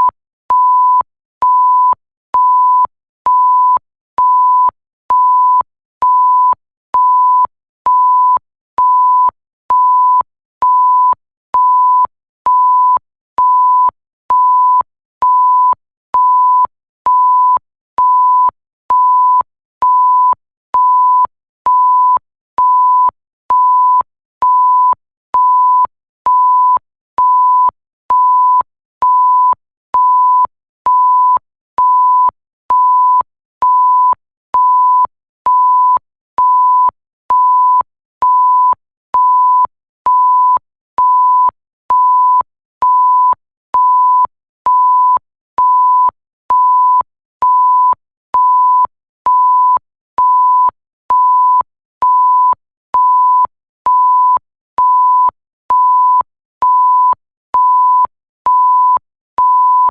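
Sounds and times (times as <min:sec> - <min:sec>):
censor bleep tone: 0:00.0 - 0:59.9.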